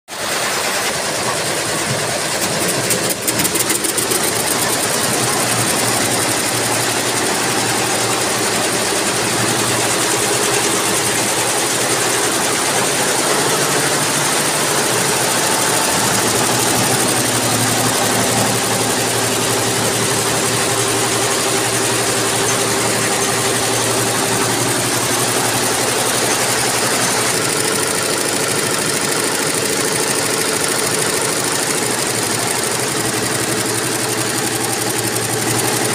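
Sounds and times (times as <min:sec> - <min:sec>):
embroidery machine stitching: 0:00.3 - 0:35.9.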